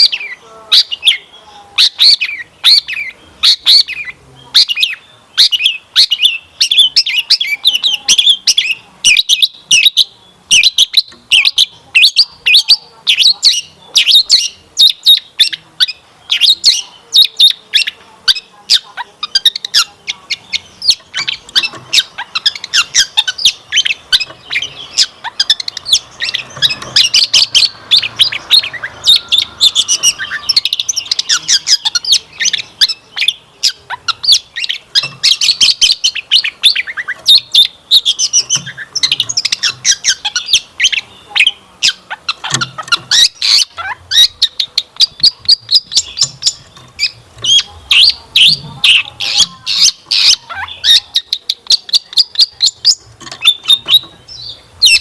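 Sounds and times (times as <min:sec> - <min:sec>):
shrike chattering song: 0:00.0 - 0:55.0.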